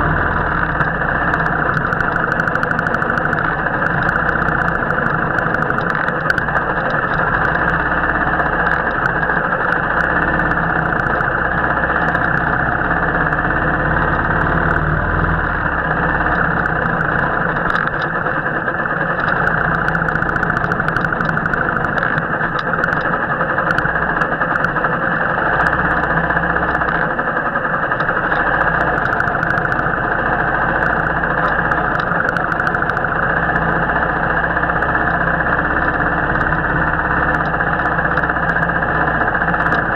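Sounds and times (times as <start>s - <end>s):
muffled motorcycle engine running: 0.0s - 39.9s.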